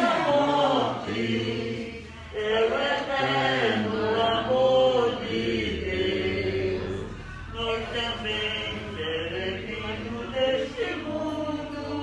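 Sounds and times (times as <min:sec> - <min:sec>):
voices singing a hymn: 0:00.0 - 0:12.0.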